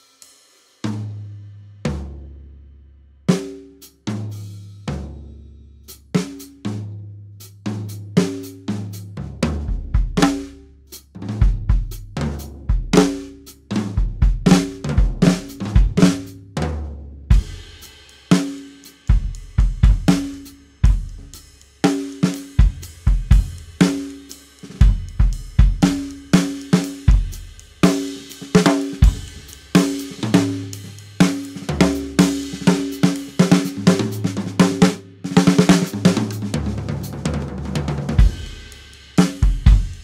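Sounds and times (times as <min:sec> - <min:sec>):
drum kit groove with fills: 0:00.0 - 0:02.4, 0:03.2 - 0:40.0.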